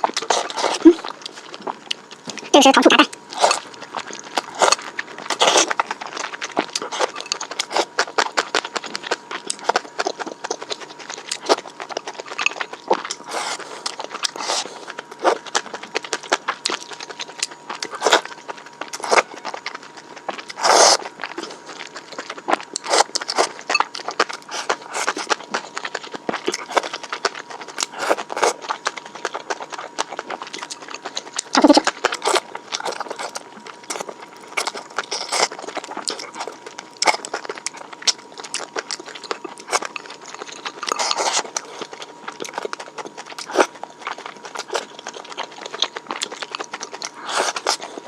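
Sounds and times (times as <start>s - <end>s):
crunchy chewing: 0.0s - 48.0s.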